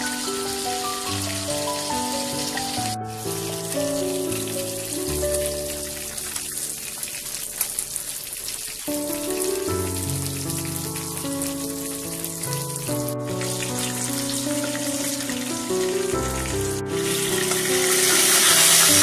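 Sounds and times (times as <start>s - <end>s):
background music of held notes: 0.0s - 7.6s, 8.9s - 19.0s
oil sizzling and crackling: 0.0s - 19.0s.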